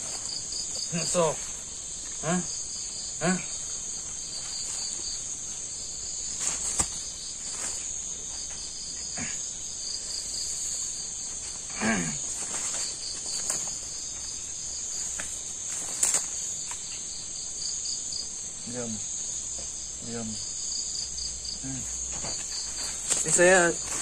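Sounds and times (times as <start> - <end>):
crickets chirping: 0.0 - 24.0
high-pitched insect drone: 0.0 - 24.0.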